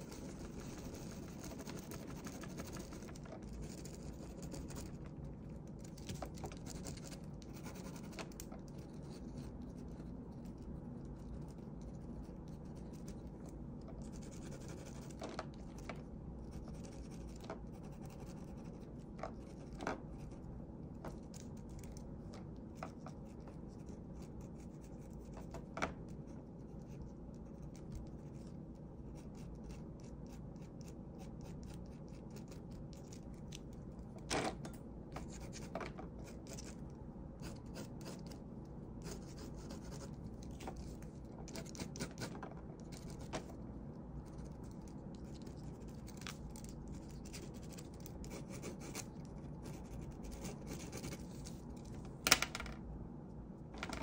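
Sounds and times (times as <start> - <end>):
pen nib scratching on paper: 0.0 - 5.1, 5.8 - 20.4, 21.1 - 33.7, 37.4 - 38.4, 39.0 - 43.5, 44.2 - 51.6
steady low hum: 0.0 - 54.0.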